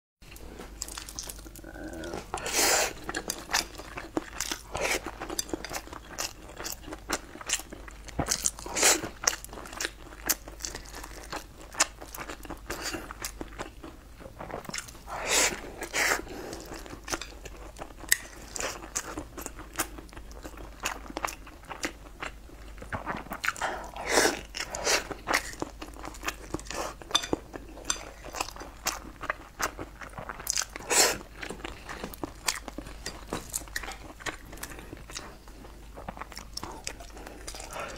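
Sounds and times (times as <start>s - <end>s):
person chewing: 0.3s - 37.9s.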